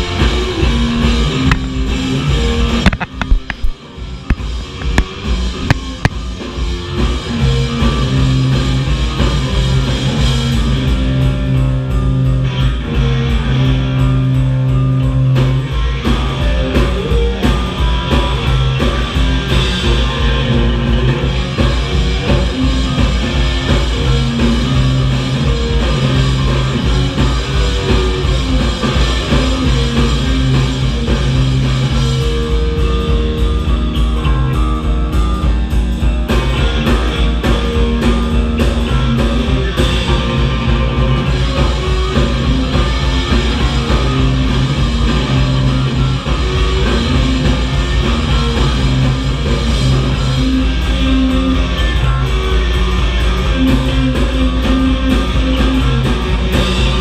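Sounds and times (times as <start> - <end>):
drum kit beat: 0.0 - 57.0
electric bass: 0.0 - 57.0
electric guitar: 0.0 - 57.0.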